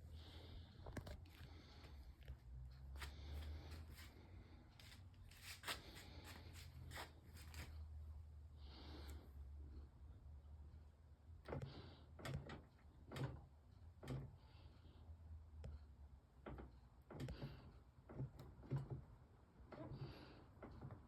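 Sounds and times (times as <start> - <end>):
low steady hum: 0.0 - 20.9.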